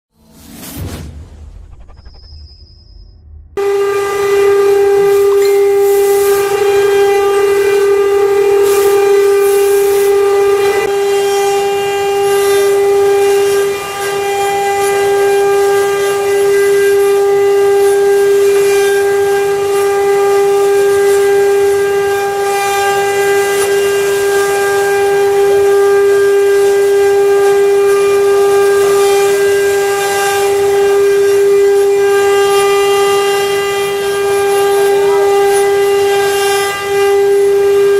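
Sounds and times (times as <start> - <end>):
router bit cutting wood: 3.6 - 37.9
router motor whine: 3.6 - 37.9.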